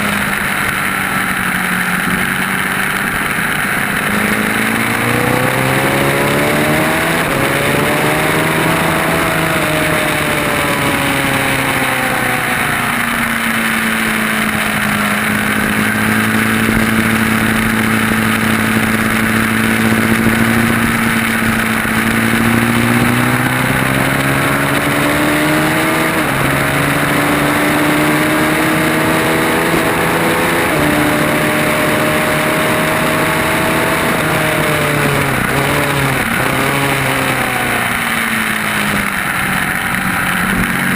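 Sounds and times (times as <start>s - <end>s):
motorcycle engine: 0.0s - 40.9s
steady rushing noise: 0.0s - 40.9s.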